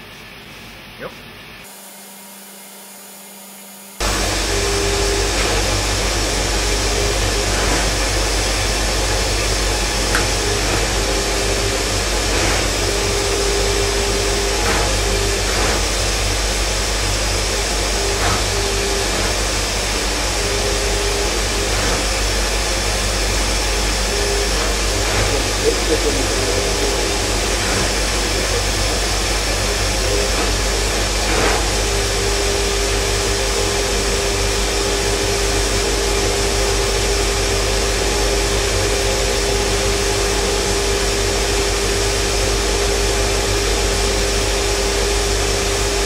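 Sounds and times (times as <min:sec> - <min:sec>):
grinding machine hiss and hum: 0:00.0 - 0:46.0
mid-pitched machine tone: 0:02.3 - 0:46.0.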